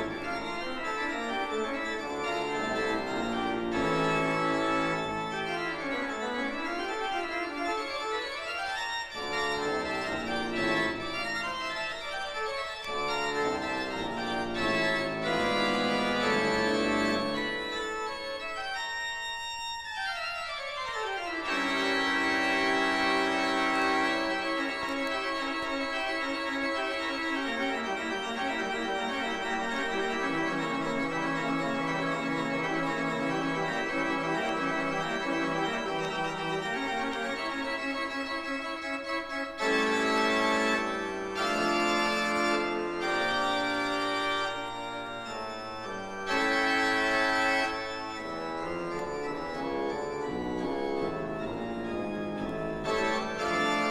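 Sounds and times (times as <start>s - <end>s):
pipe organ playing chords: 0.0s - 53.9s.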